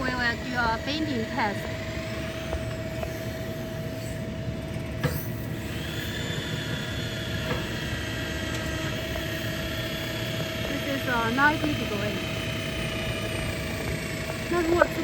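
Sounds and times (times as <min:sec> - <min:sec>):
high-pitched whine: 0:00.0 - 0:15.0
hydraulic system humming: 0:00.0 - 0:15.0.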